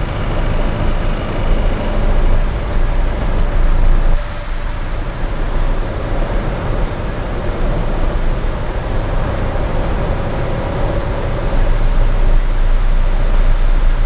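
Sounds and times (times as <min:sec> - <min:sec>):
diesel engine low drone: 0:00.0 - 0:14.0.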